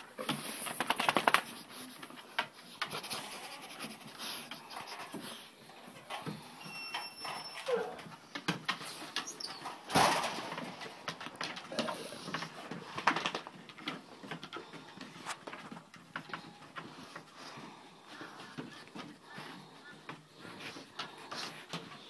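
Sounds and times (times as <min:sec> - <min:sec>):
puppies scuffling: 0:00.0 - 0:22.0
puppies' claws clicking on wood: 0:00.0 - 0:22.0.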